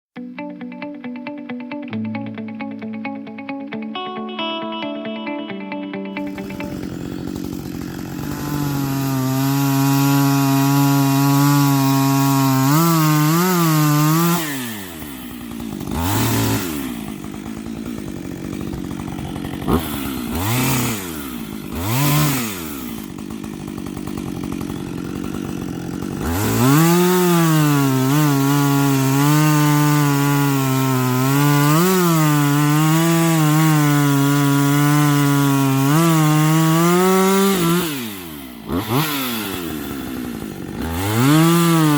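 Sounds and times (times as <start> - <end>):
chainsaw cutting wood: 6.1 - 41.9
chainsaw idling and revving: 6.2 - 41.9.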